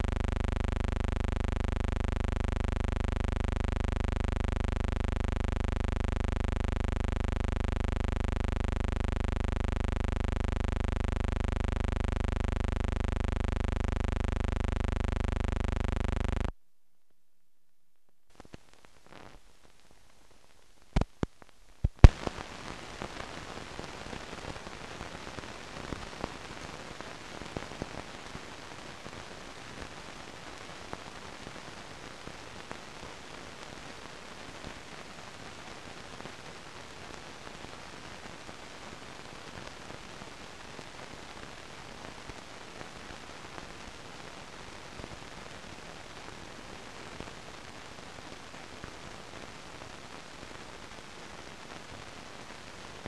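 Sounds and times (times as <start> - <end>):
film crackling hiss with pops: 0.0 - 16.5, 17.9 - 53.0.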